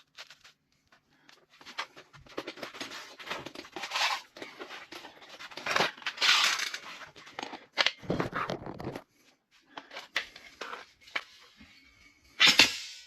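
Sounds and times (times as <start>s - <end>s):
building materials rustling and scraping: 0.0s - 12.4s.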